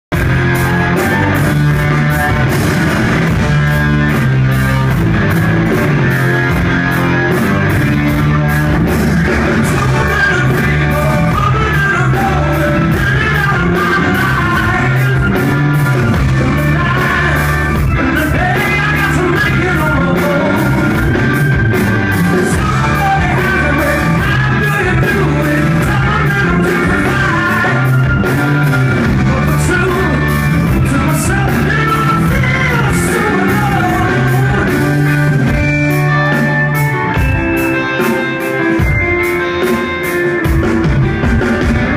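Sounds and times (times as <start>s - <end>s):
live rock band with singer: 0.1s - 41.9s.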